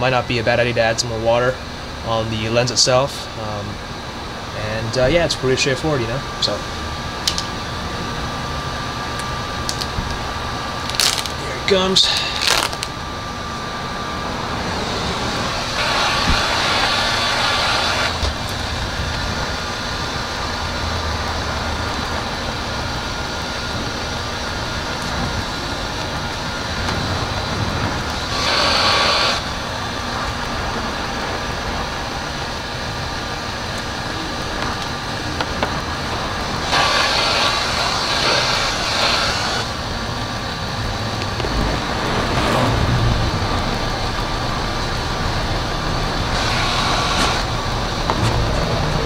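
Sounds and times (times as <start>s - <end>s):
heat gun fan whirring: 0.0s - 42.2s, 43.3s - 49.0s.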